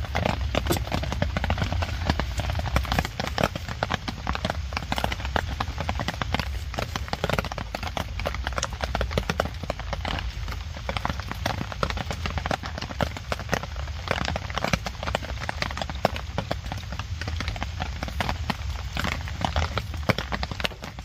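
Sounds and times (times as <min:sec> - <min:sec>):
rain pattering on a tarp: 0:00.0 - 0:21.0.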